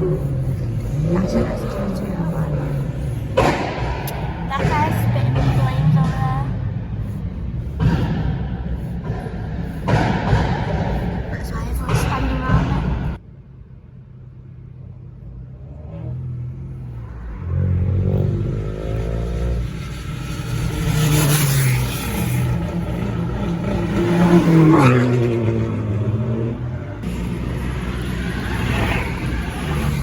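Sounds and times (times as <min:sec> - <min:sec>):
car engines revving: 0:00.0 - 0:13.2, 0:14.3 - 0:30.0.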